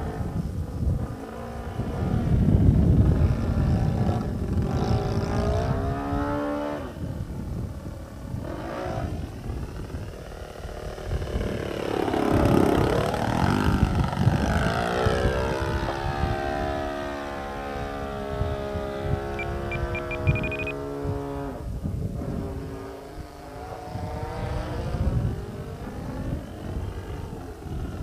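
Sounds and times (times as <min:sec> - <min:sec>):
model plane motor and propeller: 0:00.0 - 0:28.0.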